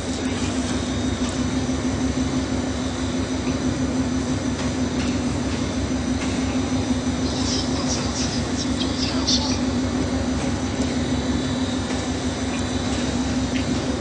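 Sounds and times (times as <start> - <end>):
machine hum with low drone: 0.0 - 14.0.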